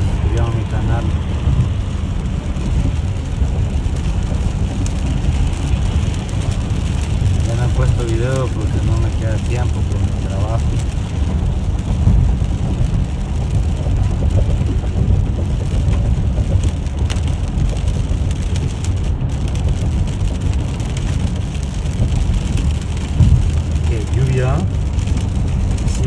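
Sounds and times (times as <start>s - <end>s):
rain on car: 0.0s - 26.0s
tyre and engine rumble: 0.0s - 26.0s
tyres hissing on wet road: 0.0s - 26.0s.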